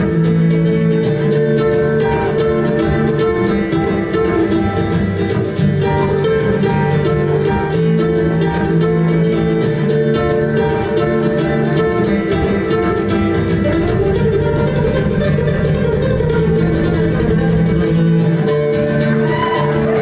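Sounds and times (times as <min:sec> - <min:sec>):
flamenco guitar playing: 0:00.0 - 0:20.0.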